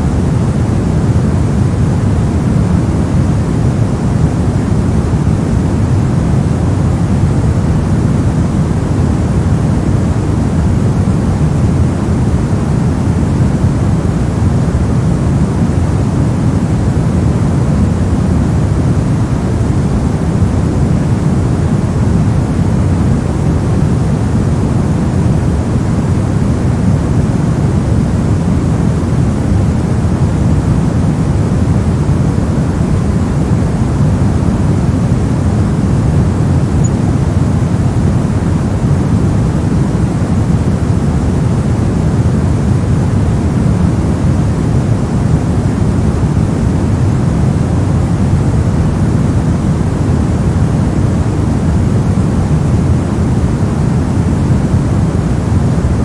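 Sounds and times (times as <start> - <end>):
deep white noise rush: 0.0 - 56.0.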